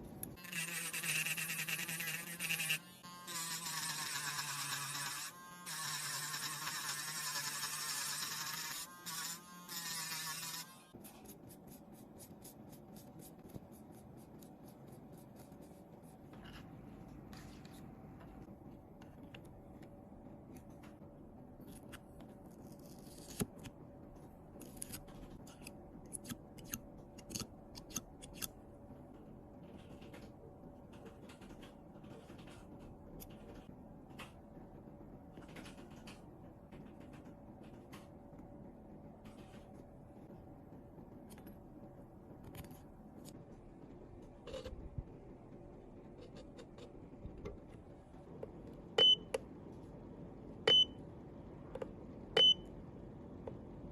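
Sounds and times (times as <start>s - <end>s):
faint steady hum: 3.0s - 53.9s.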